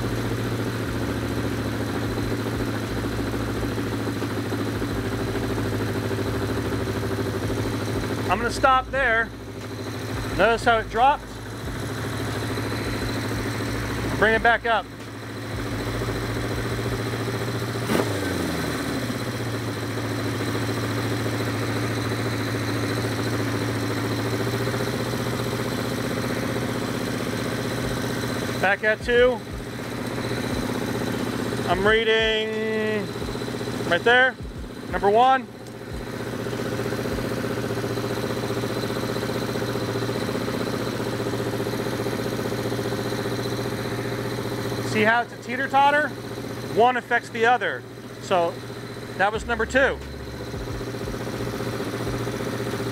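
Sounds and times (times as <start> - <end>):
motorcycle engine fast idle: 0.0 - 52.9.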